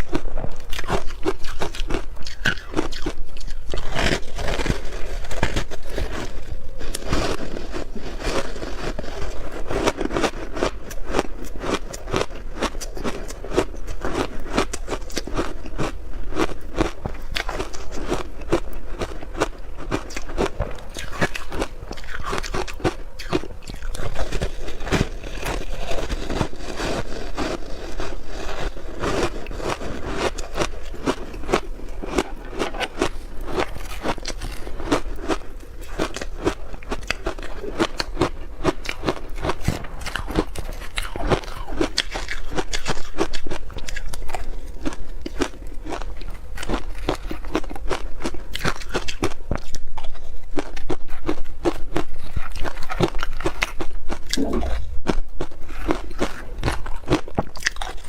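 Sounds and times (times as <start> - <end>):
person chewing ice: 0.0 - 58.0.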